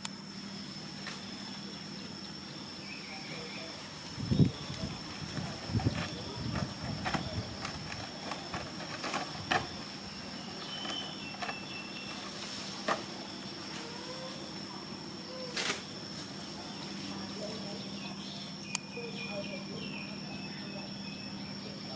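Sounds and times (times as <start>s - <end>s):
high-pitched insect drone: 0.0s - 21.9s
rustles: 0.3s - 18.4s.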